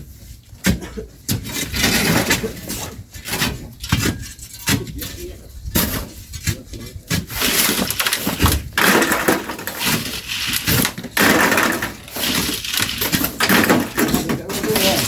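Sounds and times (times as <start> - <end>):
shovels scooping sand and gravel: 1.4 - 15.0.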